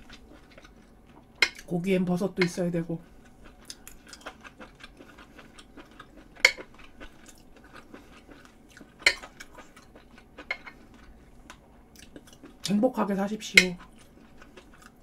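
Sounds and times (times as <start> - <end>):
close chewing and mouth sounds: 0.0 - 12.8, 13.4 - 15.0.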